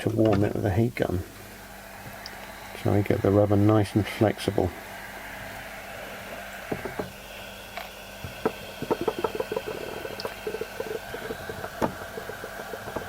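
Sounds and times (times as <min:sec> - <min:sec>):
heat gun humming: 0:00.0 - 0:13.0.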